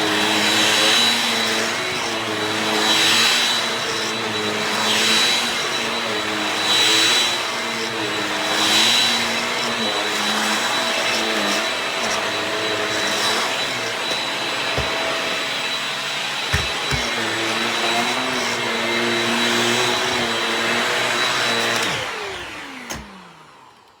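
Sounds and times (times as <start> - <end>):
stick vacuum motor whine: 0.0 - 24.0.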